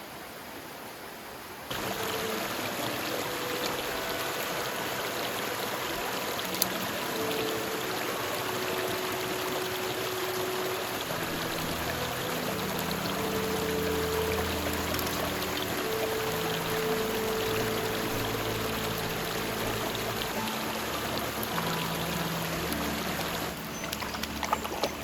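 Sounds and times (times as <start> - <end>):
mountain stream rushing: 0.0 - 25.0
soft music of held notes: 1.7 - 25.0.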